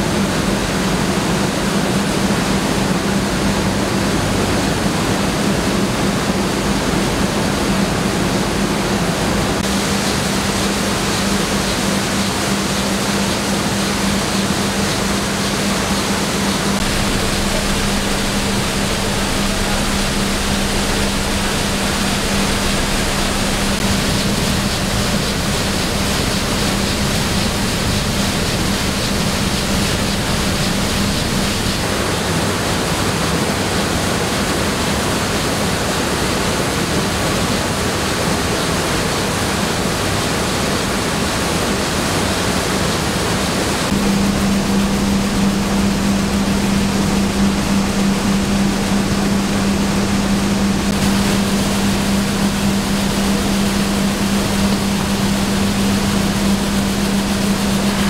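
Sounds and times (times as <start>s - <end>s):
mill machinery running: 0.0s - 34.8s, 43.2s - 58.0s.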